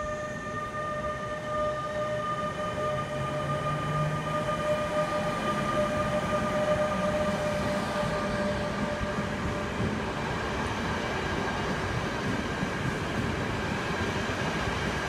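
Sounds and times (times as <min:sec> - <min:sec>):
electric locomotive whine: 0:00.0 - 0:15.0
train wheels rumbling on track: 0:00.0 - 0:15.0.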